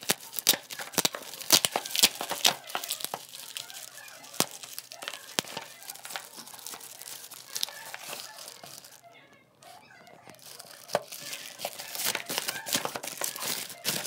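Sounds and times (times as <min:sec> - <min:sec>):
plastic bag tearing and crinkling: 0:00.0 - 0:09.0, 0:10.0 - 0:14.0.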